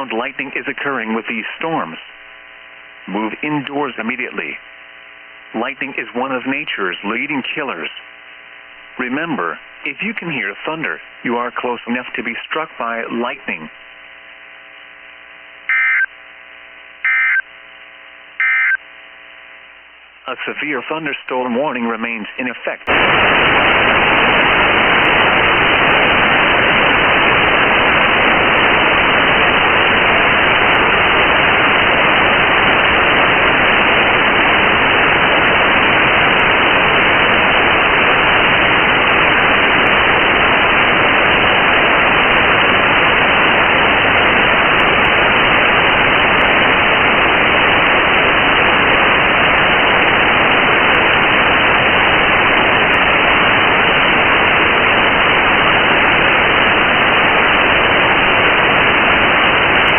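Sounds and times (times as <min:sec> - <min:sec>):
radio static hiss: 0:00.0 - 0:59.9.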